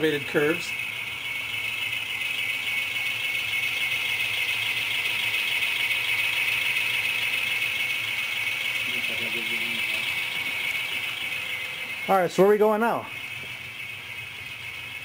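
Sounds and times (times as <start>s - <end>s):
model train rattling whir: 0.0s - 15.0s.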